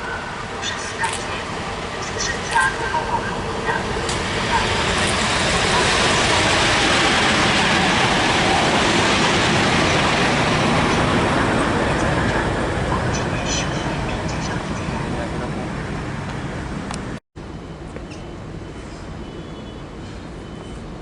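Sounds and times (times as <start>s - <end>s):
train rolling along tracks: 0.0s - 21.0s.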